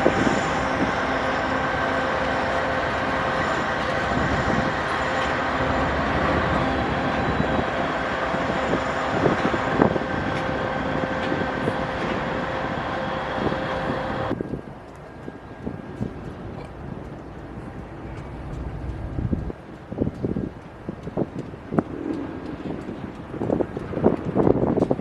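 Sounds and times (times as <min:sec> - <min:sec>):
steady train whine: 0:00.0 - 0:25.0
train wheels rolling on rails: 0:00.0 - 0:25.0.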